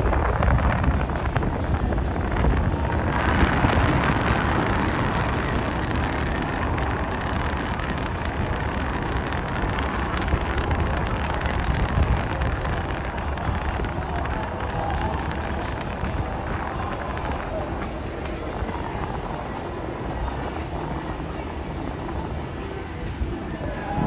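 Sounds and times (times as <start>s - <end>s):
steady rumbling noise: 0.0s - 24.0s
wind buffeting microphone: 0.0s - 24.0s.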